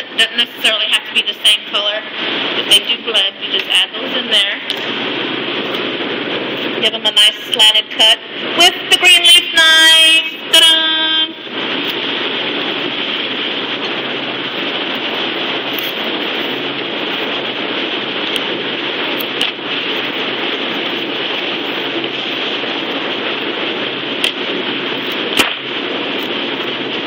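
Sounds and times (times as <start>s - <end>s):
refrigeration fans blowing: 0.0s - 27.0s.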